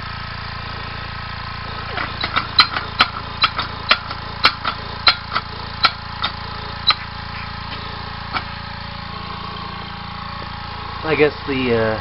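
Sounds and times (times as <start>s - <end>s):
air compressor running: 0.0s - 12.0s
air engine puffing clicks: 1.5s - 11.4s.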